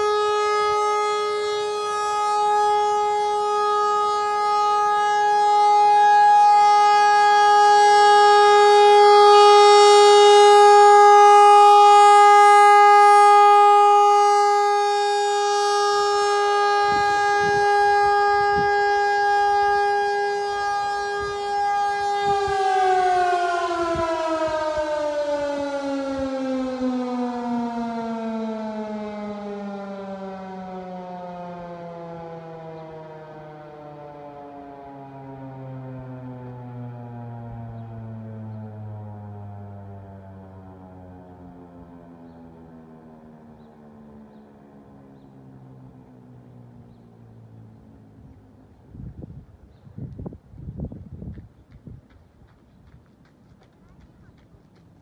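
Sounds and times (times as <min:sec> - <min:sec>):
rotating warning siren: 0:00.0 - 0:53.0.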